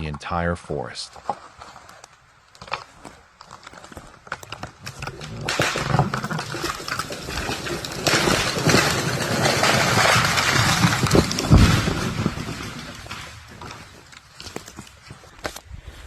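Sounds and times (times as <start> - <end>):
wood cracking: 1.1 - 15.7.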